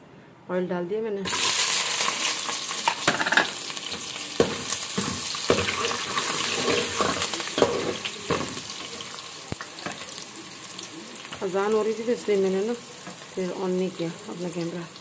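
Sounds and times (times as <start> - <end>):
onions sizzling in hot oil: 1.3 - 15.0.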